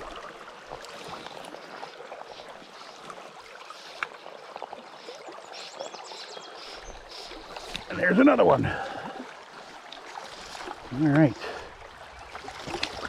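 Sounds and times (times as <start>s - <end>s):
creek babbling over stones: 0.0s - 13.0s.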